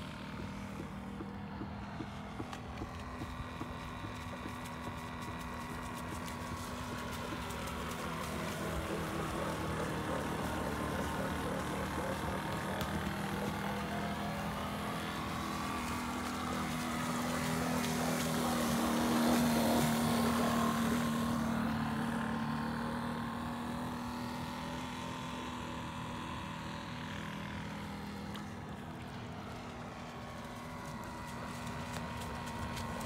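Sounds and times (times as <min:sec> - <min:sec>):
model boat glow engine running: 0:00.0 - 0:33.0.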